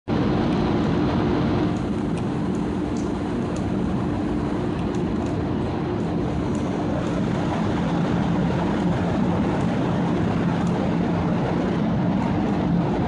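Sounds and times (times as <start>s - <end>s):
electric train humming: 0.1s - 13.0s.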